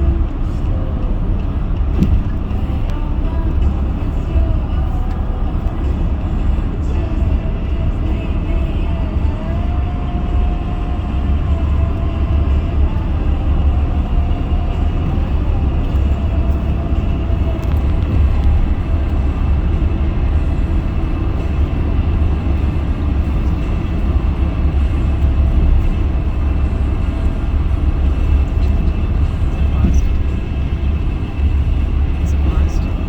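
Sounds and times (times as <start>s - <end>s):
car road noise: 0.0s - 33.0s.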